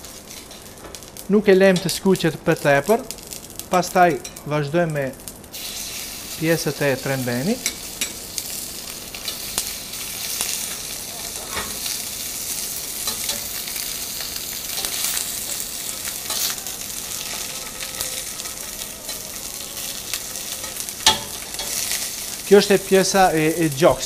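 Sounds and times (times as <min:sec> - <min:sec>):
meat sizzling in oil: 0:00.0 - 0:24.0.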